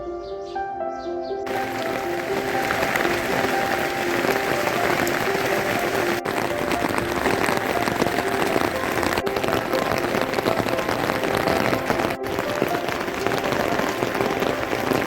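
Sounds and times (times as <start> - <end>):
soft background melody: 0.0 - 15.0
heavy rain pattering: 1.5 - 15.0.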